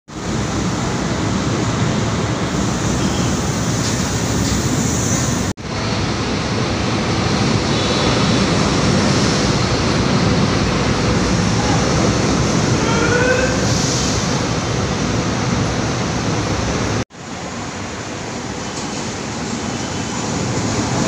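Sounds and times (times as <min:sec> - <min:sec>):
train wheels rumbling on rail: 0:00.1 - 0:21.0.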